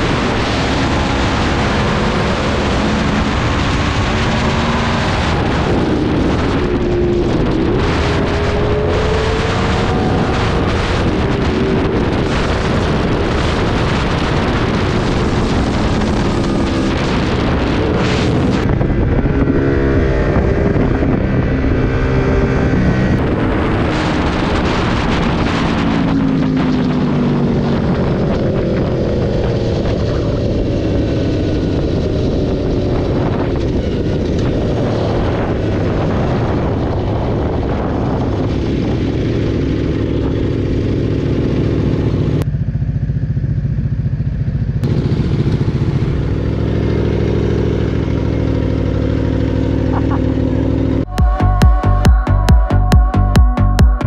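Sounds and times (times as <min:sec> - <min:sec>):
motorcycle engine at speed: 0:00.0 - 0:51.2
wind noise on microphone: 0:00.0 - 0:54.0.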